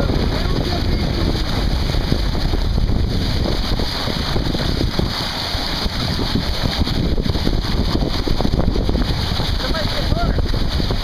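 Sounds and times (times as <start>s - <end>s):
water rushing along a boat hull: 0.0s - 11.0s
wind buffeting the microphone: 0.0s - 11.0s.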